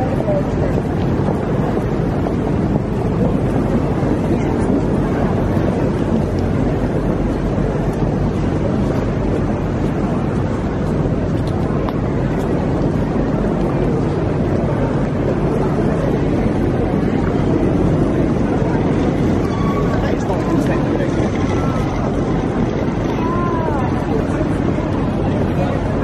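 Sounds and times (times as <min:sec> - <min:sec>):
crowd hubbub: 0:00.0 - 0:26.0.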